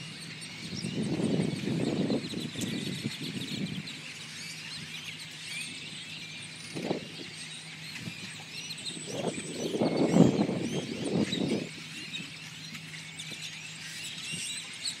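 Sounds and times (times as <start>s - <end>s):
flock of birds chirping: 0.0s - 15.0s.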